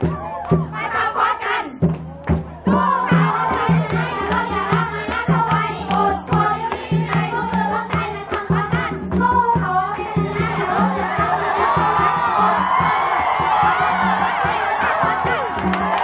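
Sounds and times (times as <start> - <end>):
steady drum beat: 0.0 - 16.0
voices singing: 0.0 - 16.0.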